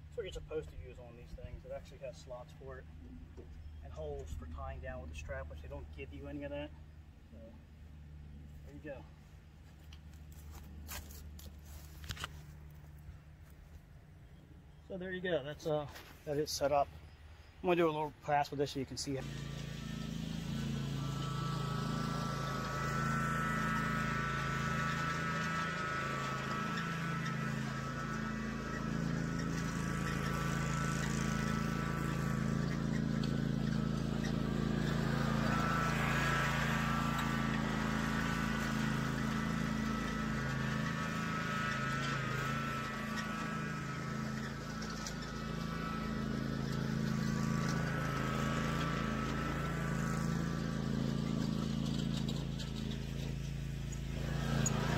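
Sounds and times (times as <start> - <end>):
mower engine running: 0.0 - 13.8, 15.0 - 54.9.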